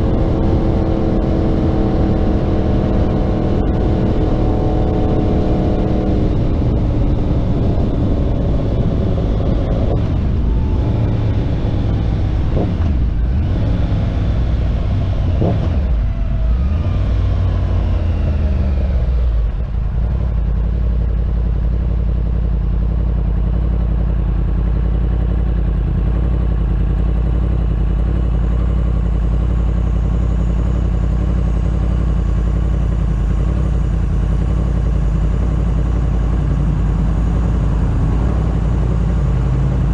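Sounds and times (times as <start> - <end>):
motorcycle engine idling: 6.2 - 39.9.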